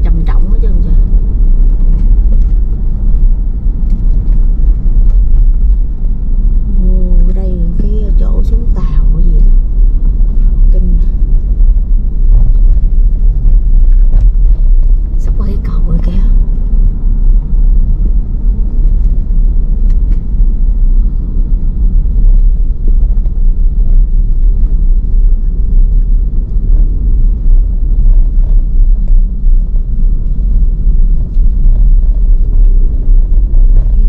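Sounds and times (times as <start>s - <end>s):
loud low rumble: 0.0s - 34.0s.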